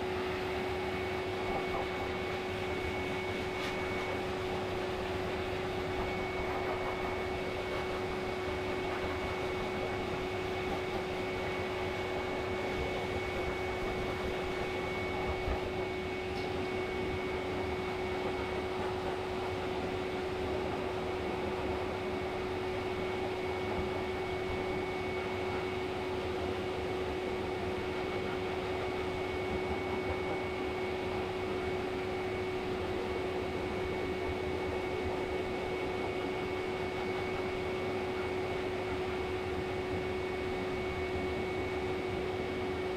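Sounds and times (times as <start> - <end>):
blow dryer running: 0.0 - 42.9.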